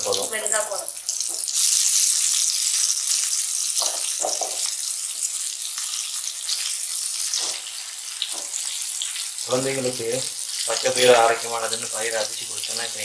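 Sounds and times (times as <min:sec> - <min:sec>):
oil sizzling in a pan: 0:00.0 - 0:13.0.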